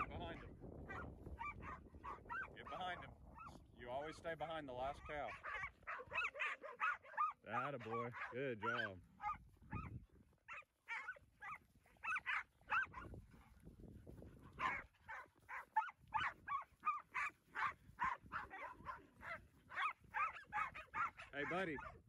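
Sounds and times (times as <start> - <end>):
dog barking: 0.0 - 3.6, 5.0 - 9.9, 10.5 - 13.6, 14.5 - 22.0.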